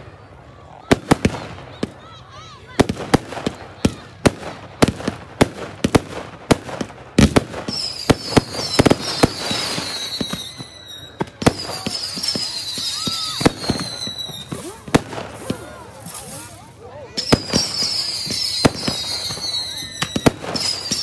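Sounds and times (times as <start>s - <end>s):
fireworks bangs: 0.8s - 21.0s.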